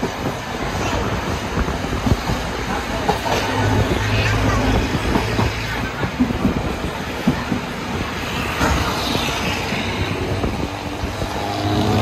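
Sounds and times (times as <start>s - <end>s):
train rolling on track: 0.0s - 12.0s.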